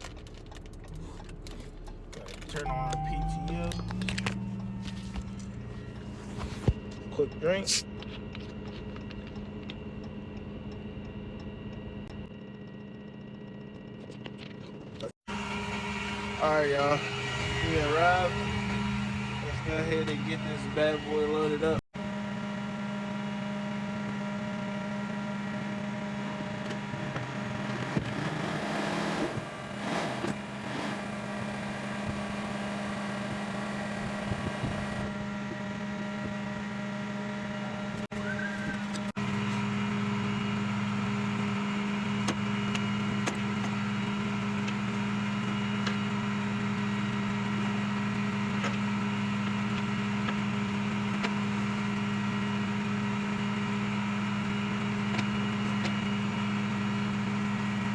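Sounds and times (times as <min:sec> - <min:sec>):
tow truck engine running: 0:00.0 - 0:57.9.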